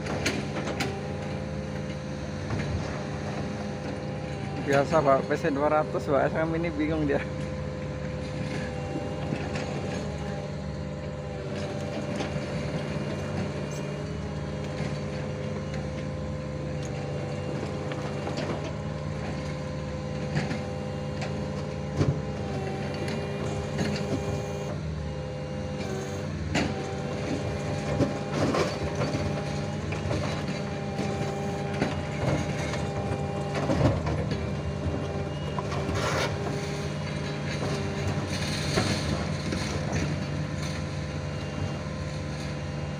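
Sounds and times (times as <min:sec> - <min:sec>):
diesel engine running: 0:00.0 - 0:42.9
hydraulic whine: 0:00.0 - 0:42.9.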